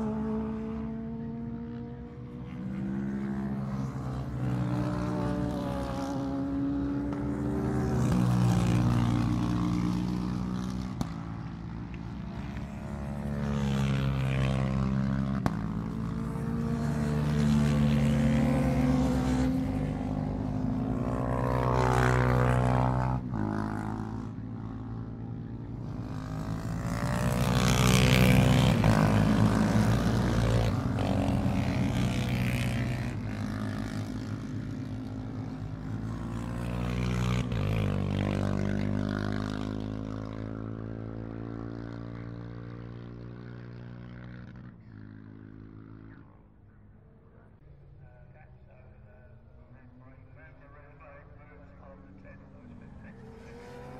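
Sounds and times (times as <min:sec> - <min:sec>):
racing motorcycles passing: 0:00.0 - 0:48.2, 0:49.0 - 0:53.9.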